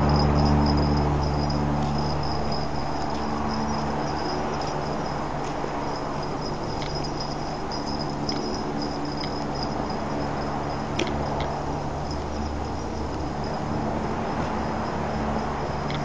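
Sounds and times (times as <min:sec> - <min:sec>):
road and wind noise: 0:00.0 - 0:16.0
vehicle engine drone: 0:00.0 - 0:16.0.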